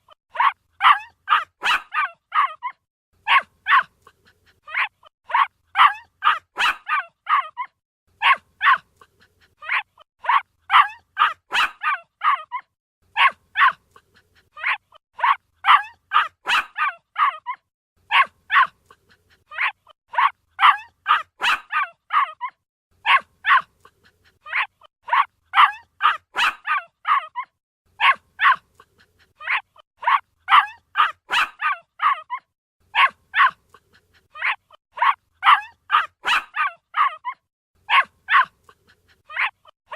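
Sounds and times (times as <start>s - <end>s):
puppy barking in high yips: 0.0s - 4.0s, 4.6s - 8.9s, 9.5s - 13.9s, 14.5s - 23.7s, 24.3s - 39.9s.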